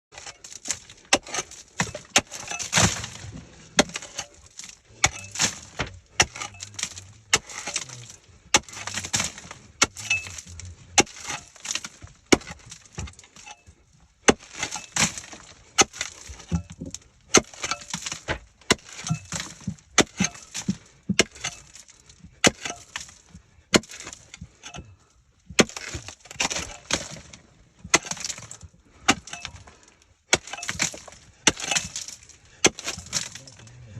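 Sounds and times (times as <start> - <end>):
hard material breaking and clattering: 0.1 - 24.9, 25.6 - 33.8.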